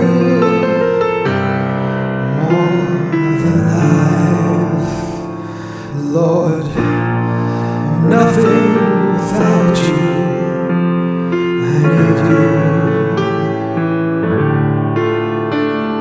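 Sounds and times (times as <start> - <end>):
person singing: 0.0 - 13.9
piano and keyboard: 0.0 - 16.0.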